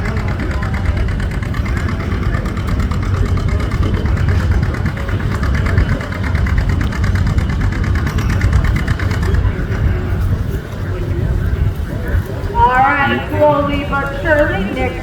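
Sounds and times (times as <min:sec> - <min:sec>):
tractor engine labouring: 0:00.0 - 0:15.0.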